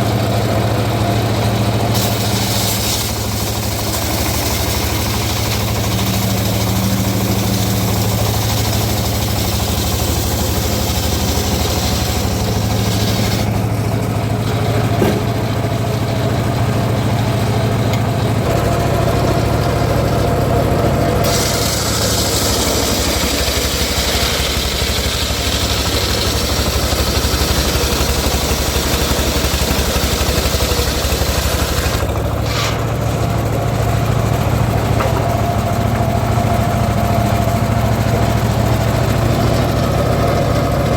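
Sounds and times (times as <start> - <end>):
circular saw running: 0.0 - 40.9.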